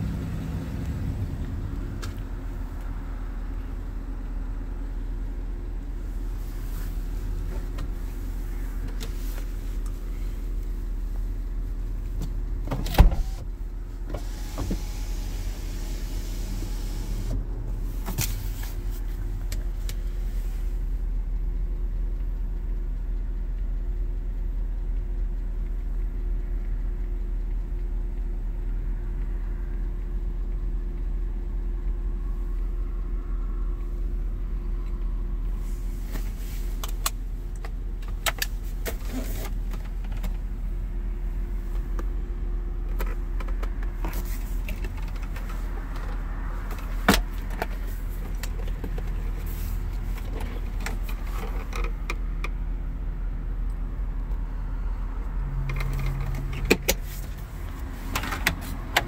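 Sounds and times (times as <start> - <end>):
low cabin hum: 0.0 - 59.0.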